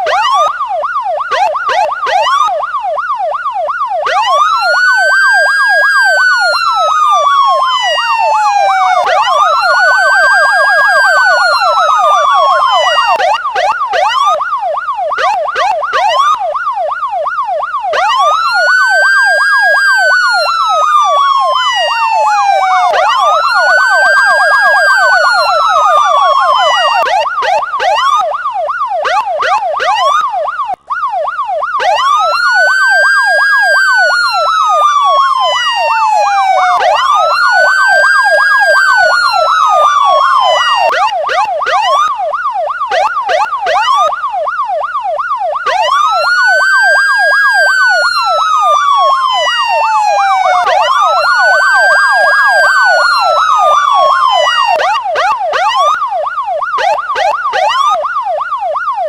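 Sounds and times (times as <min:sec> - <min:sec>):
police siren wail: 0:00.0 - 0:59.0
police siren yelp: 0:00.0 - 0:59.0.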